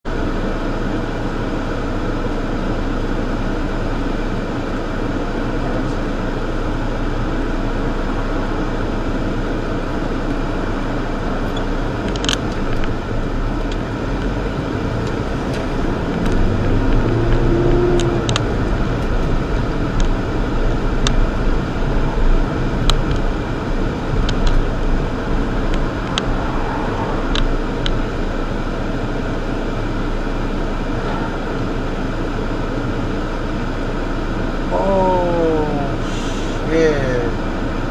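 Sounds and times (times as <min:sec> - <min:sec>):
road traffic noise: 0:00.0 - 0:37.9
vehicle engine: 0:00.0 - 0:37.9.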